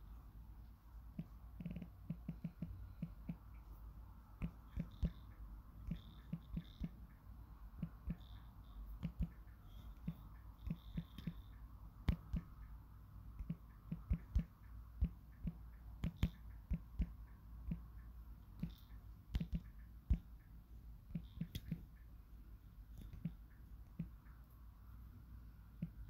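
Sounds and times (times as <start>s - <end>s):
fingertips tapping touchscreen: 1.1s - 22.2s, 22.9s - 24.6s, 25.7s - 26.0s.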